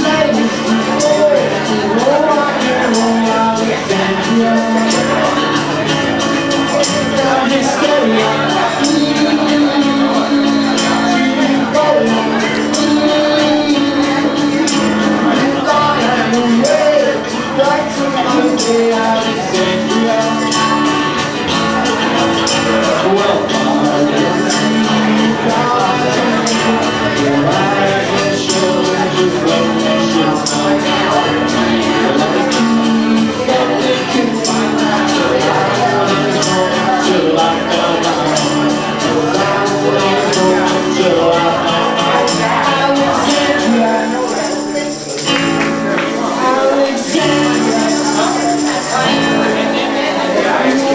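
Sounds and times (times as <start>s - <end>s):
acoustic guitar: 0.0s - 50.9s
percussion beat: 0.0s - 50.9s
person singing: 0.0s - 50.9s.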